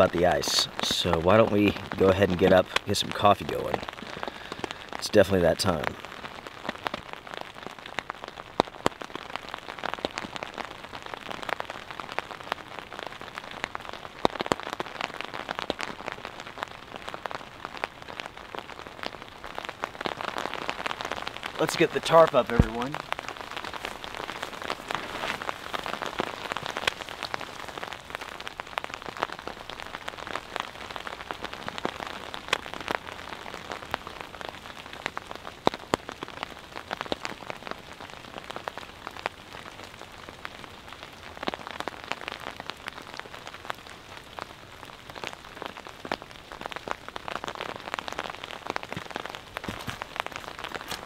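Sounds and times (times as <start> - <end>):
freezing rain ticking on surface: 0.0 - 51.0.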